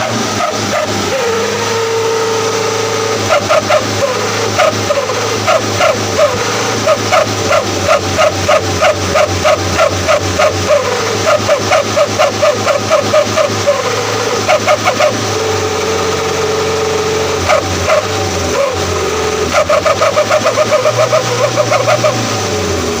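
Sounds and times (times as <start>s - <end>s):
truck engine humming: 0.0s - 23.0s
truck exhaust barking: 0.0s - 23.0s.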